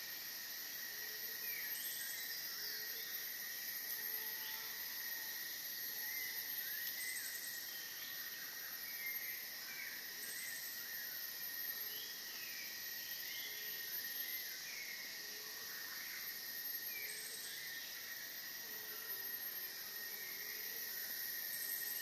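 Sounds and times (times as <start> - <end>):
high buzzing of insects: 0.0 - 22.0.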